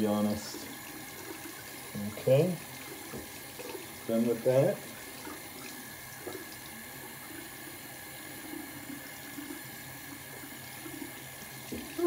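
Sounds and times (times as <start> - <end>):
faucet running into sink: 0.0 - 12.0
water splashing: 0.0 - 12.0.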